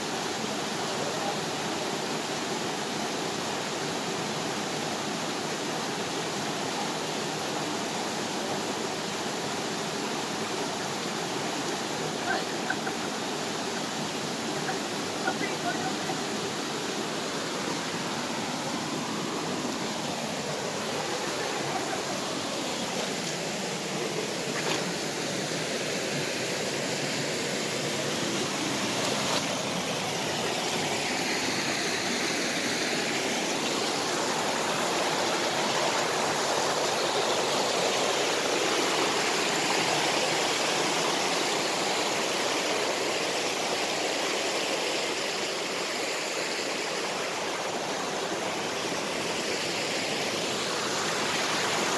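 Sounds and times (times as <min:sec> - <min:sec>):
stream rushing over boulders: 0:00.0 - 0:51.9.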